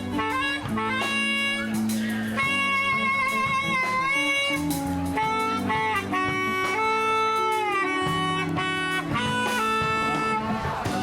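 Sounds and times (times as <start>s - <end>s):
bass and chords: 0.0s - 11.0s
wind instrument melody: 0.0s - 11.0s.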